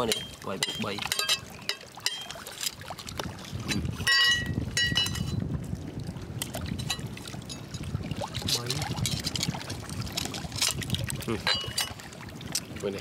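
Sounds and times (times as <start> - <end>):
oyster shells clicking and scraping: 0.0 - 5.4, 6.4 - 12.7.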